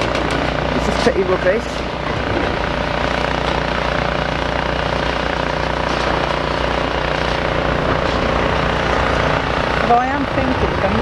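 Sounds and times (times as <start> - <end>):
machinery droning: 0.0 - 11.0.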